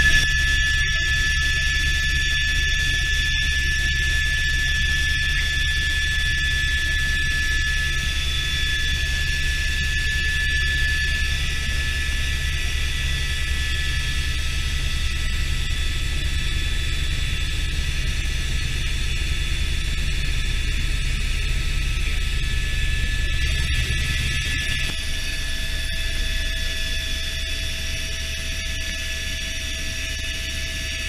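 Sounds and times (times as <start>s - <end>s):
helicopter rotor and engine drone: 0.0s - 31.0s
high turbine whine: 0.0s - 31.0s.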